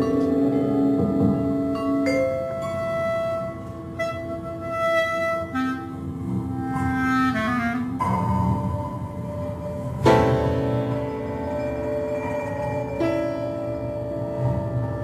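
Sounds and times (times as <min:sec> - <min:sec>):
slow chamber music: 0:00.0 - 0:15.0.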